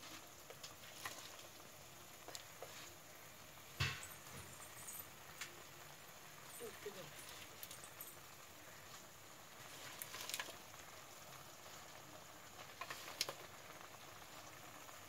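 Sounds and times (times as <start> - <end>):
faint simmering in a pan: 0.0 - 15.0
soft crackles of wet leaves: 0.0 - 15.0.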